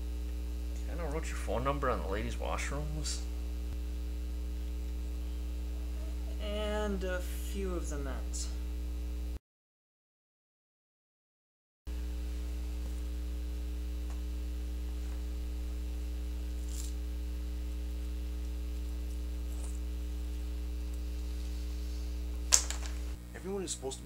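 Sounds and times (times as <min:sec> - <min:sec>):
electrical mains hum: 0:00.0 - 0:09.4, 0:11.9 - 0:24.0.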